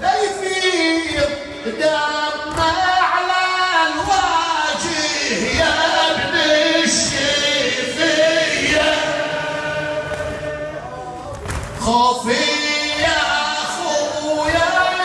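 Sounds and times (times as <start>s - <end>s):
man chanting a lament: 0.0s - 8.7s, 10.6s - 15.0s.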